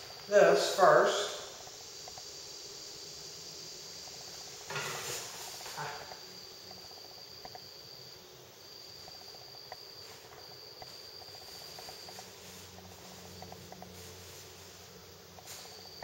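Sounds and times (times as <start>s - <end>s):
crickets chirping: 0.0s - 16.0s
high steady whine: 0.0s - 16.0s.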